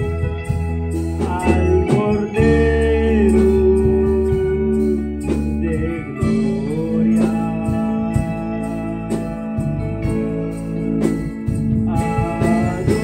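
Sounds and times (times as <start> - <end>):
bass: 0.0 - 13.0
drums: 0.0 - 13.0
electric guitars: 0.0 - 13.0
keyboard: 0.0 - 13.0
person singing: 0.0 - 13.0.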